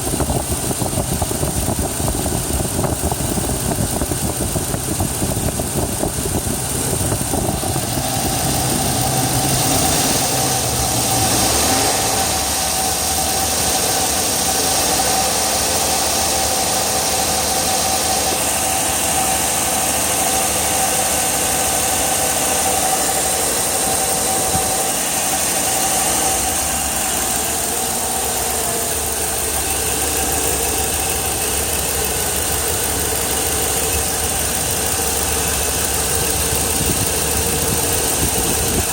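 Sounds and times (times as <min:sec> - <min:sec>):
car engine idling: 0:00.0 - 0:38.9
steady engine whine: 0:00.0 - 0:38.9.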